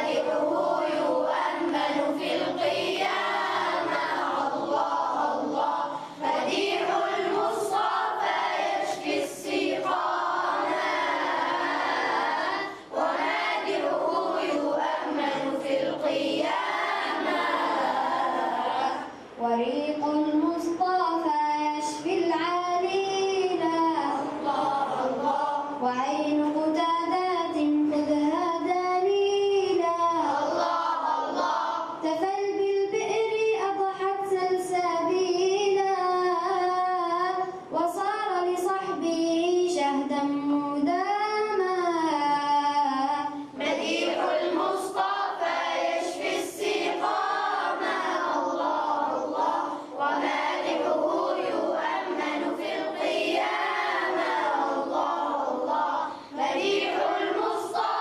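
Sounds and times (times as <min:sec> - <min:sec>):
young voices singing devotional song: 0:00.0 - 0:58.0.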